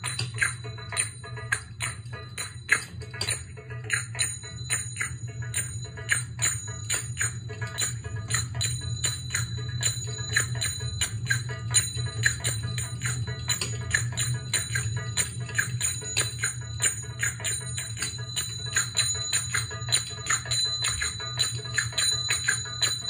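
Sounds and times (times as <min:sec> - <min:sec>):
finger cymbals ringing: 0:00.0 - 0:23.0
steady low hum: 0:00.0 - 0:23.0.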